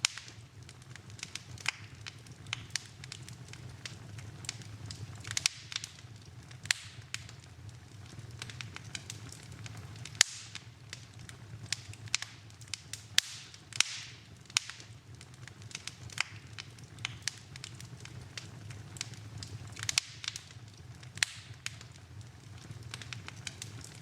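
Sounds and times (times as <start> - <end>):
sharp pops from fire: 0.0 - 24.0
wood fire crackling: 0.0 - 24.0.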